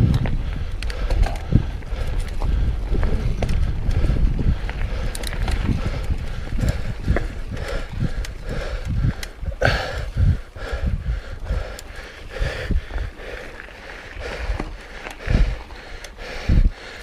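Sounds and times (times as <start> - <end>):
bike rattling and clicking: 0.0 - 17.0
steady low rumble: 0.0 - 17.0
tyres rolling on dirt and rock: 0.0 - 17.0.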